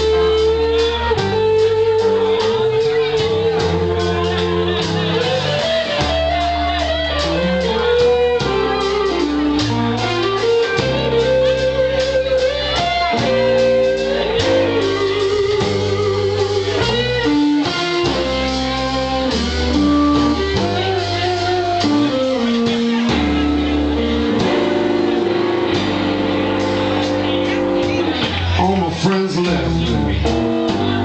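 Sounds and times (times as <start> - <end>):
bass and drums: 0.0 - 31.0
electric guitar lead: 0.0 - 31.0.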